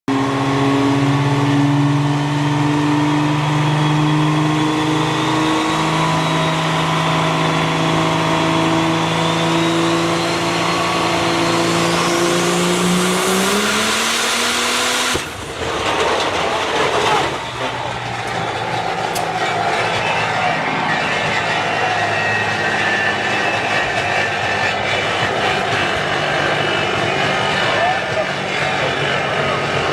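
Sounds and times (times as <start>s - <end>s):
harsh engine bursts: 0.1s - 29.9s
truck engine pulling under load: 0.1s - 29.9s.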